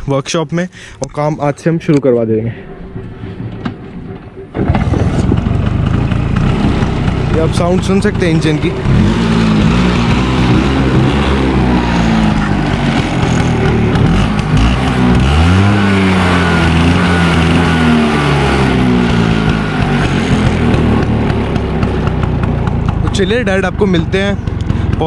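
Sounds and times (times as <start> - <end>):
scooter engine revving: 2.6 - 25.0.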